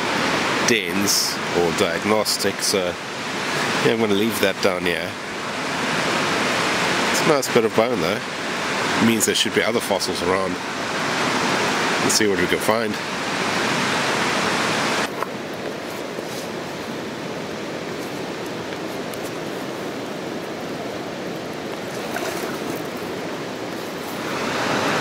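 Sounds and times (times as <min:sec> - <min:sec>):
surf on a stony beach: 0:00.0 - 0:25.0.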